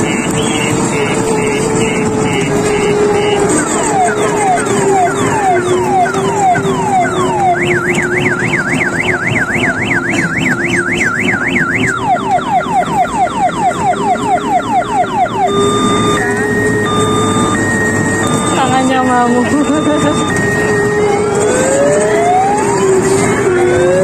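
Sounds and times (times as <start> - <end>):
electronic siren whooping and warbling: 0.0 - 24.0.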